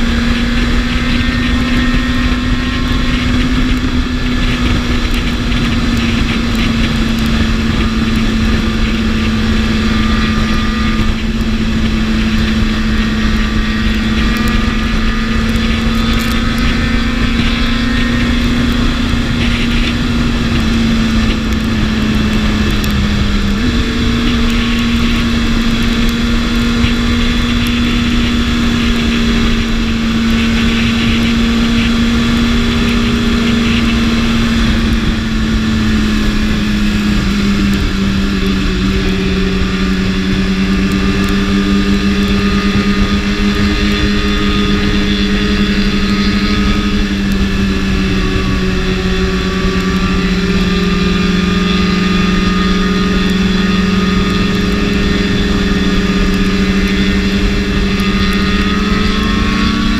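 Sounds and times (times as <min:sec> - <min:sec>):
motorcycle engine cruising: 0:00.0 - 0:59.9
wind rush: 0:00.0 - 0:59.9.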